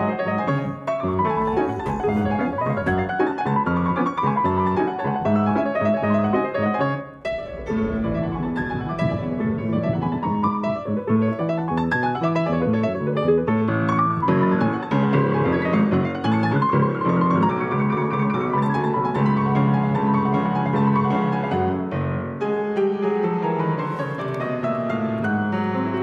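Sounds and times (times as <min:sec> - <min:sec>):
fast piano playing: 0:00.0 - 0:26.0.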